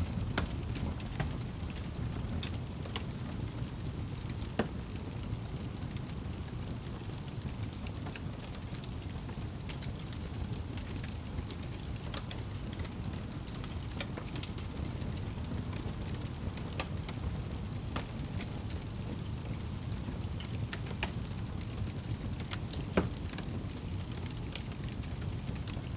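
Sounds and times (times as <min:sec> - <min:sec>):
fire crackling and popping: 0:00.0 - 0:25.9
steady rain: 0:00.0 - 0:25.9.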